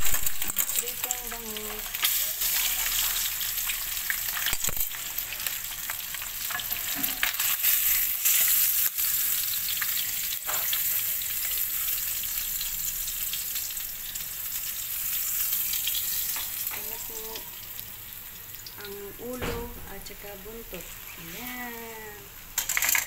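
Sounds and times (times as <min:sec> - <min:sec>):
fish sizzling in hot oil: 0:00.0 - 0:19.4, 0:20.1 - 0:23.0.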